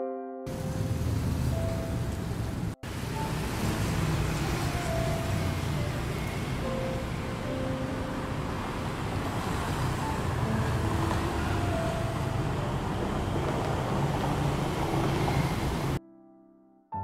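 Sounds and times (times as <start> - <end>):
passing cars humming: 0.5 - 16.0.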